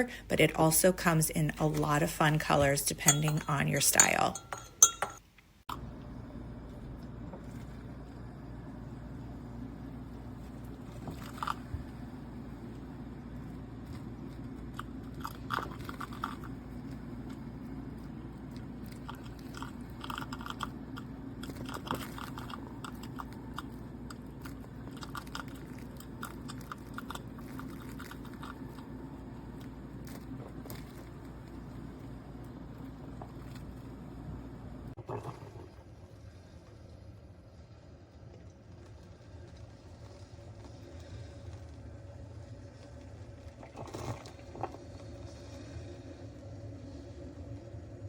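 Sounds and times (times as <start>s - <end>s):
coffee maker gurgling and popping: 0.0s - 37.4s, 38.0s - 48.0s.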